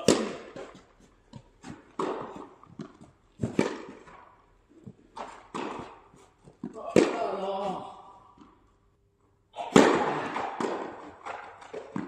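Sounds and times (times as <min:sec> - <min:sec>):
ball bouncing: 0:00.0 - 0:07.8, 0:09.7 - 0:12.0
racket striking tennis ball: 0:00.0 - 0:08.6, 0:09.6 - 0:12.0.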